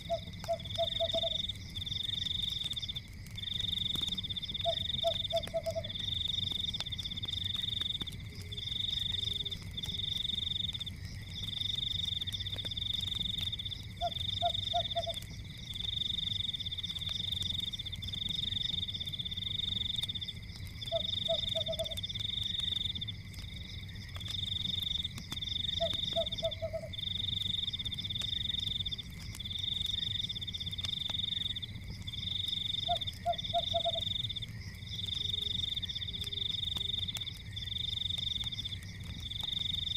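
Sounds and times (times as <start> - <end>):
fire rumble with crackles: 0.0 - 39.9
frogs trilling: 0.0 - 39.9.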